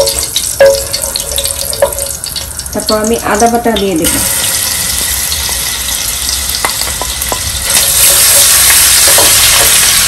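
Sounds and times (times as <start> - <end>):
hot oil sizzling in a pan: 0.0 - 10.0.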